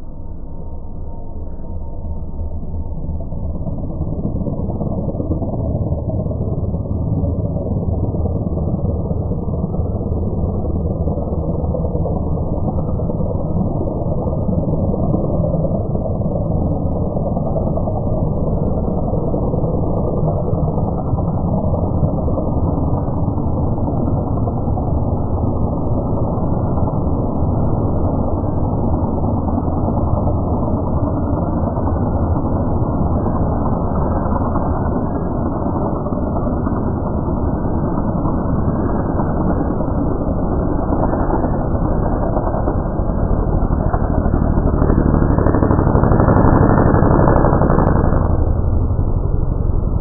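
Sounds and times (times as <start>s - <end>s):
airplane engine flying low: 0.0s - 50.0s.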